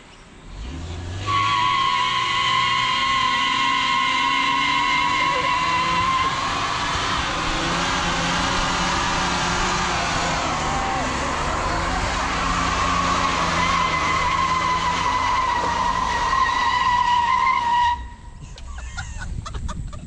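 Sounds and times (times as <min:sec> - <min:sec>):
car engine revving: 0:00.5 - 0:18.3
tyre squeal: 0:01.2 - 0:07.4, 0:08.6 - 0:18.6.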